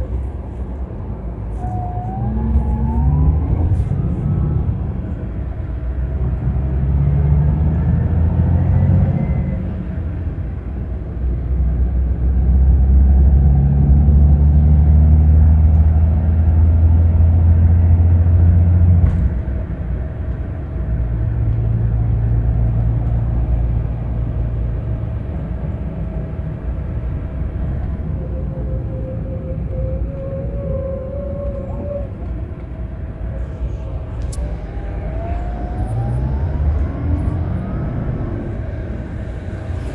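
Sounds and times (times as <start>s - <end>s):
diesel engine rumbling under load: 0.0s - 39.9s.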